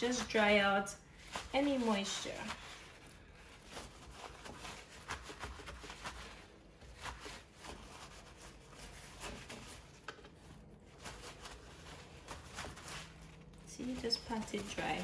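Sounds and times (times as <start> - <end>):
paper towel rustling: 0.0 - 15.0.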